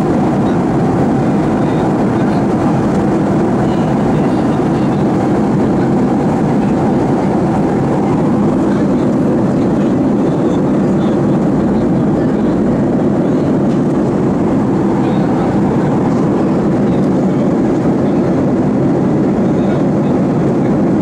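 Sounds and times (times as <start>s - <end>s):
airliner cabin jet engine rush: 0.0s - 21.0s.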